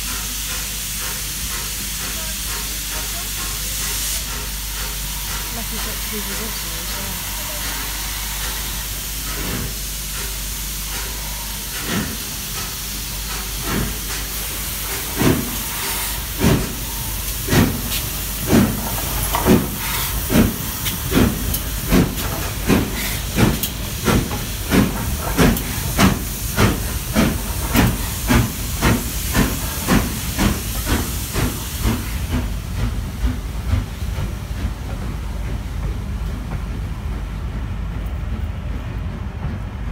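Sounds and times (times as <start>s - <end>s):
steam hissing from drain cocks: 0.0s - 34.7s
steam locomotive exhaust beats: 0.0s - 39.9s.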